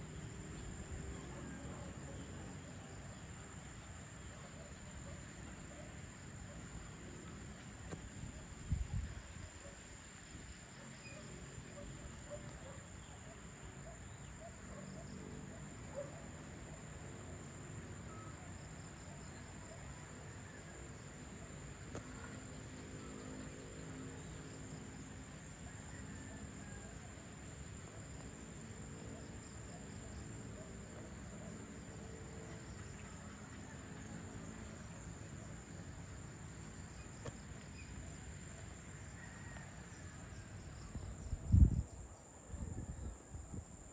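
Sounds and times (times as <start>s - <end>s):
crickets chirring: 0.0s - 43.9s.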